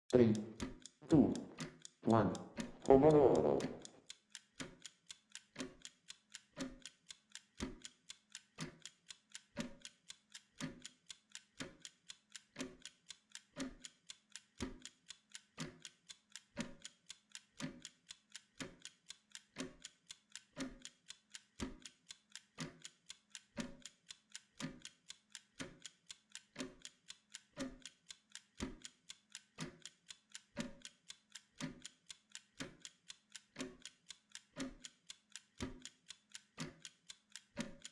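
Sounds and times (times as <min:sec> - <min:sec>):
kitchen timer ticking: 0:00.1 - 0:37.9.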